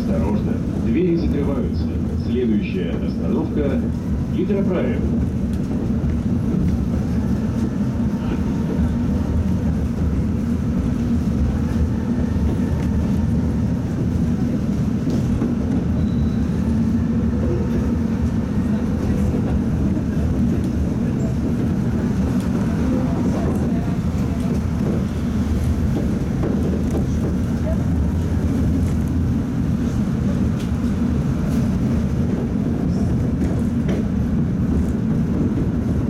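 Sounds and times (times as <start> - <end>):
tram rumbling on rails: 0.0 - 36.0.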